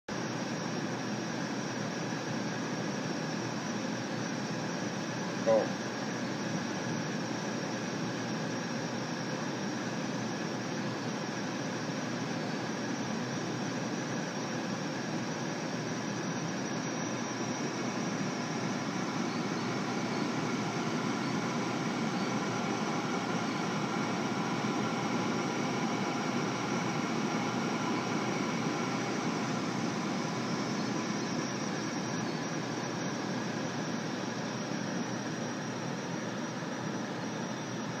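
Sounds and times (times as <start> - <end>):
faint high whining tones: 0.2 - 38.0.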